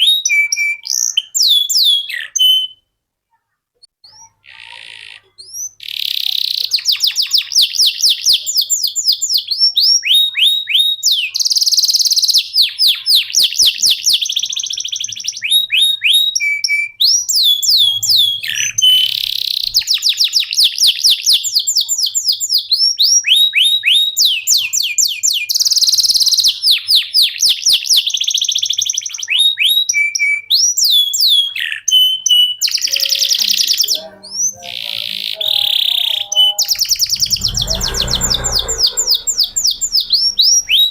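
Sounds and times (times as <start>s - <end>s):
canary singing: 0.0s - 2.9s, 4.0s - 40.9s.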